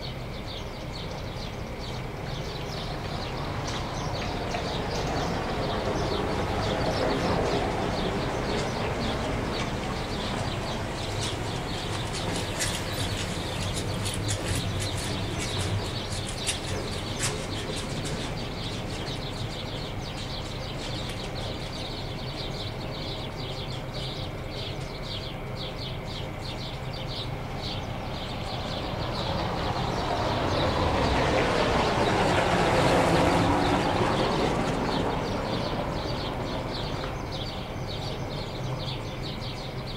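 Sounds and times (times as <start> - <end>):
rumble of traffic: 0.0 - 39.9
small birds chirping: 0.0 - 39.9.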